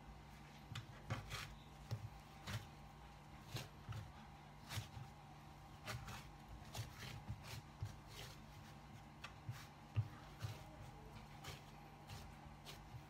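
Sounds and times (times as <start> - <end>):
hands patting dough: 0.0 - 13.0
steady low hum: 0.0 - 13.0.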